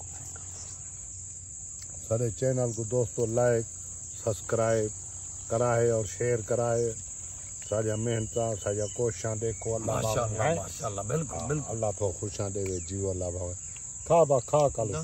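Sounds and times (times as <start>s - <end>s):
high-pitched insect drone: 0.0s - 15.0s
man talking: 2.0s - 7.0s, 7.6s - 15.0s.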